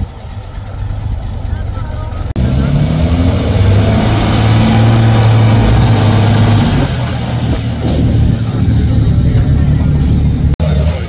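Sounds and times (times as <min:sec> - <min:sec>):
diesel truck engine under load: 0:00.0 - 0:11.0.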